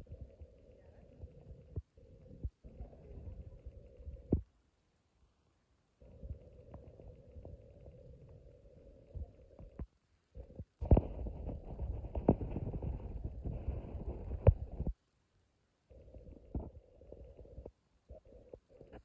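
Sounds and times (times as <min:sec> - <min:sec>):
wind rumbling on microphone: 0:00.0 - 0:04.4, 0:06.0 - 0:15.0, 0:15.9 - 0:19.0.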